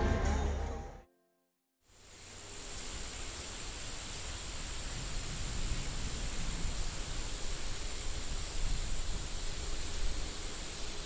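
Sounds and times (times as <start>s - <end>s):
rainforest hiss: 1.9s - 11.0s.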